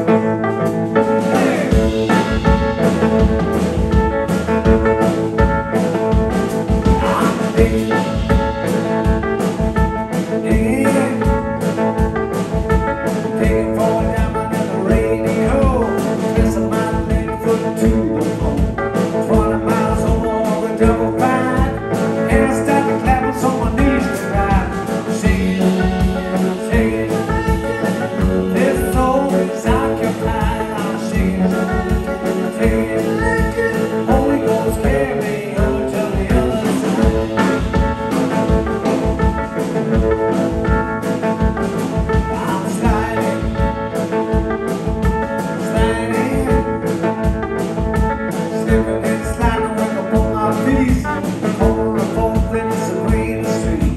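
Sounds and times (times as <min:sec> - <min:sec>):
guitar: 0:00.0 - 0:53.9
live blues band: 0:00.0 - 0:53.9.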